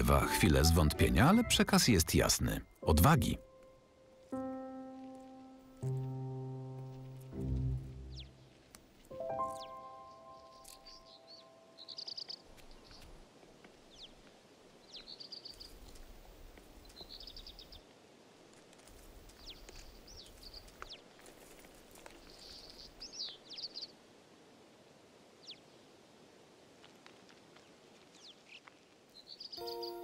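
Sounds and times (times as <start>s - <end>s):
small birds chirping: 0.0s - 17.8s, 18.9s - 24.0s, 25.4s - 25.9s, 27.5s - 30.0s
faint background hiss: 0.0s - 30.0s.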